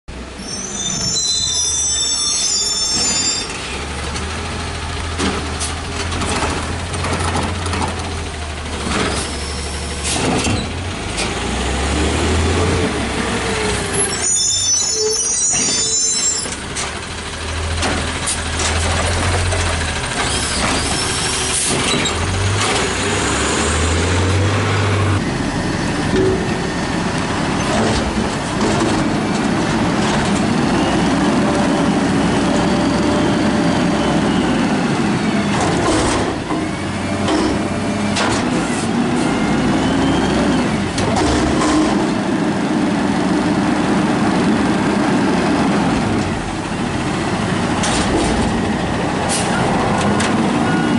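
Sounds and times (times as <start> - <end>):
garbage truck engine: 0.1 - 50.9.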